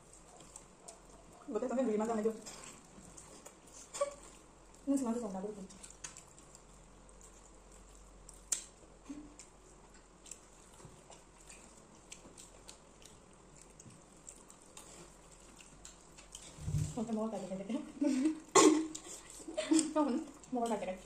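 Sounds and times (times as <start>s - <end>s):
soft chewing: 0.0s - 21.0s.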